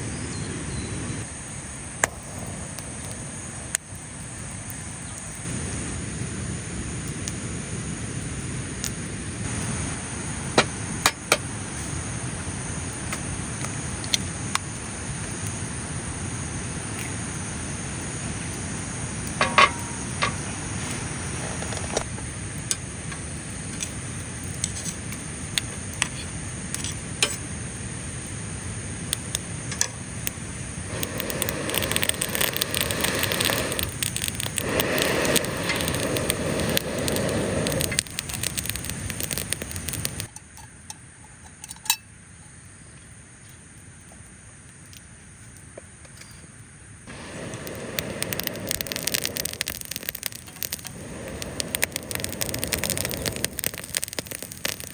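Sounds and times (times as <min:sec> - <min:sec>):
fire hissing: 0:00.0 - 0:54.9
campfire crackling and popping: 0:01.2 - 0:42.0, 0:47.0 - 0:54.9.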